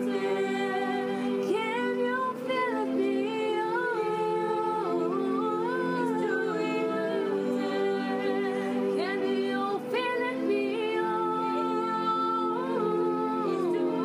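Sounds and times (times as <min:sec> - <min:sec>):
sustained chords: 0:00.0 - 0:14.0
woman singing long held notes: 0:00.0 - 0:14.0.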